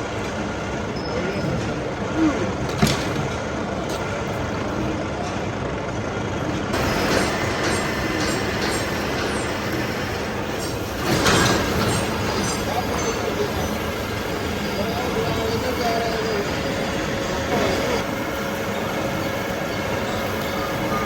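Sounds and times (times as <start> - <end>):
heavy workshop machinery running: 0.0 - 21.0.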